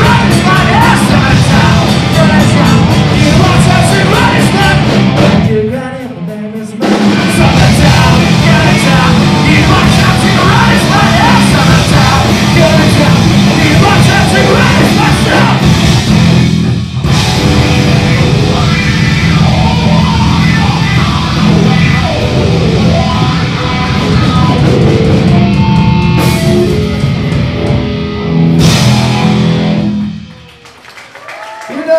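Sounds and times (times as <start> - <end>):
rock band playing loud: 0.0 - 31.2.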